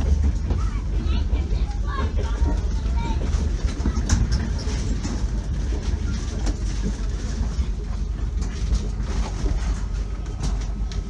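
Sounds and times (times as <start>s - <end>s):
knocks and rattles: 0.0s - 11.0s
passenger train rumbling: 0.0s - 11.0s.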